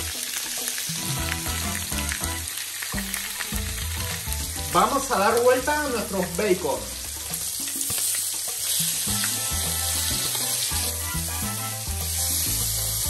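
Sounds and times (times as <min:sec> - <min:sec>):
background music with bass: 0:00.0 - 0:13.0
bacon sizzling in a pan: 0:00.0 - 0:13.0.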